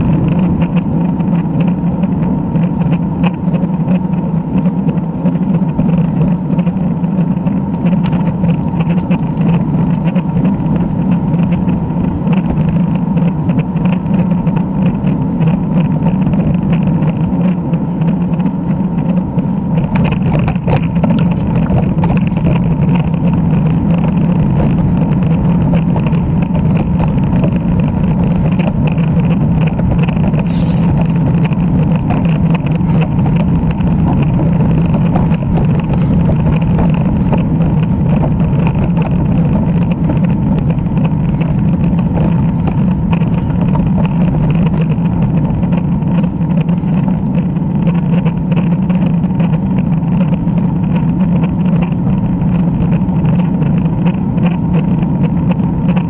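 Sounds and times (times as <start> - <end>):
wind and road noise from bike: 0.0 - 56.0.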